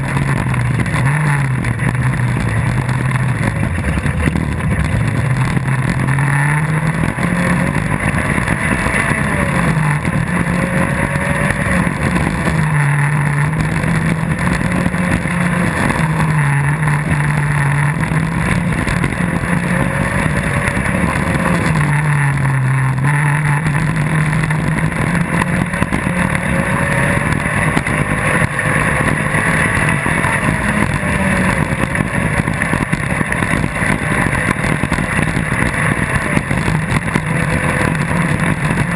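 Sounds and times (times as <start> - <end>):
buggy engine running hard: 0.0 - 38.9
constant rushing noise: 0.0 - 38.9.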